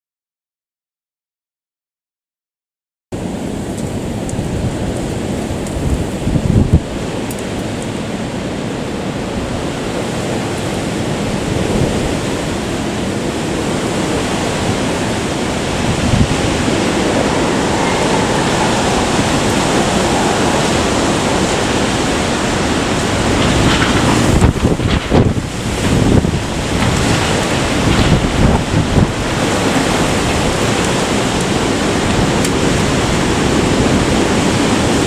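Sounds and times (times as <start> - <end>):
strong wind blowing: 3.2 - 35.0
wind noise on microphone: 3.2 - 35.0.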